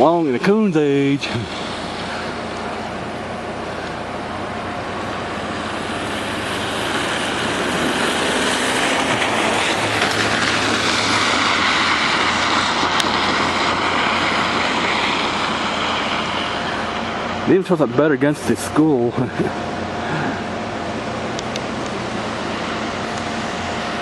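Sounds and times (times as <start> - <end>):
broad engine roar: 0.0 - 24.0.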